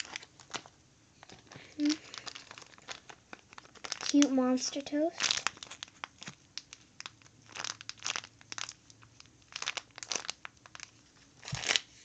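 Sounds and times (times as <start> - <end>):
thin plastic crinkling: 0.0 - 12.0.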